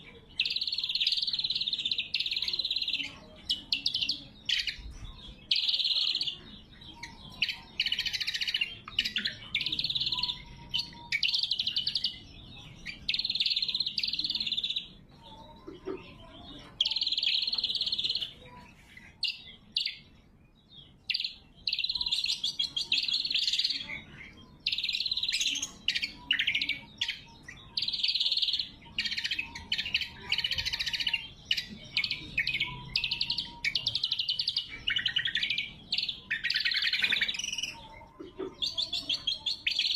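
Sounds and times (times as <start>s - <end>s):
bird singing high-pitched chattering: 0.0s - 39.9s.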